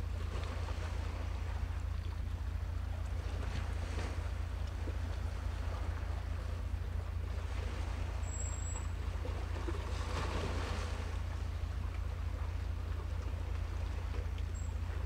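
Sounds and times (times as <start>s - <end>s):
low rumble: 0.0s - 15.0s
waves: 0.0s - 15.0s
wind: 0.0s - 15.0s.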